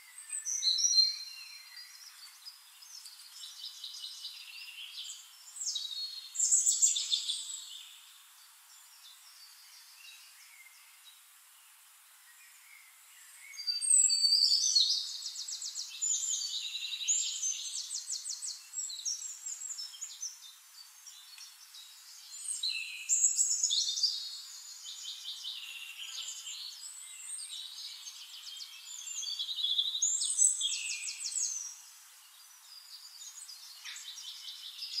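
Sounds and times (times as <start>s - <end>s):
birds chirping and trilling: 0.0s - 11.3s, 12.3s - 35.0s.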